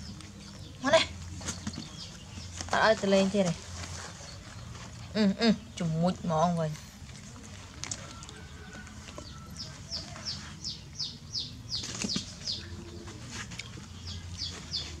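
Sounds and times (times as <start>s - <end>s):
bird chirping: 0.0s - 6.7s, 7.3s - 15.0s.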